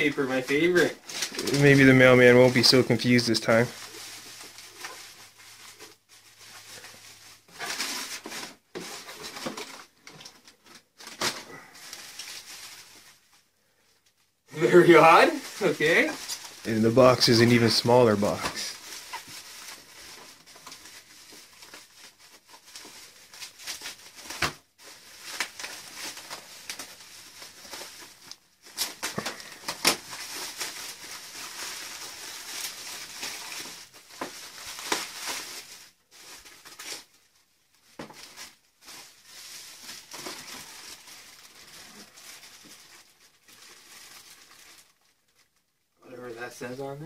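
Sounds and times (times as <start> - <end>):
plastic bag crinkling: 0.0 - 46.9.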